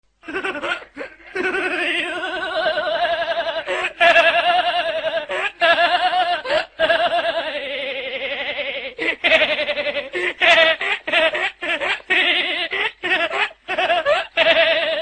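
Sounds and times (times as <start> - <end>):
person laughing: 0.2 - 15.0.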